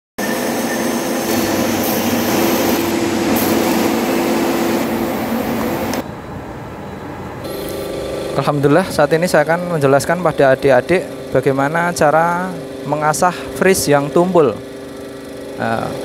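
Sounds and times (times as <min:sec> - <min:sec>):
mechanical running noise with hum: 0:00.2 - 0:16.0.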